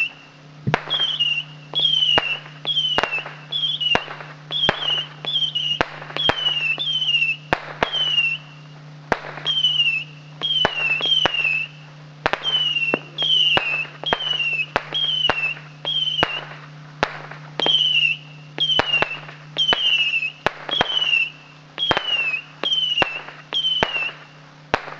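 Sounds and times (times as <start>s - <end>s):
missile whistles falling in pitch: 0.0s - 8.6s, 9.4s - 11.8s, 12.4s - 16.6s, 17.6s - 24.4s
firecracker cracks: 0.7s - 8.4s, 9.1s - 24.9s.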